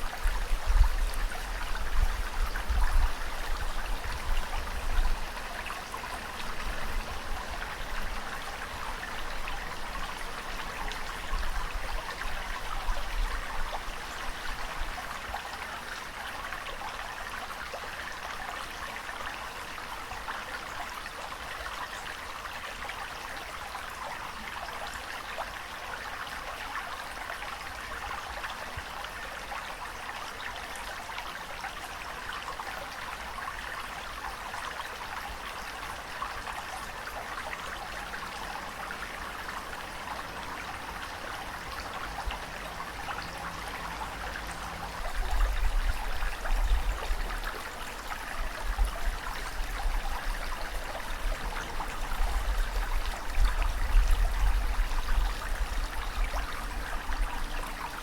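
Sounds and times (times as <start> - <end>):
trickling rushing water: 0.0 - 58.0.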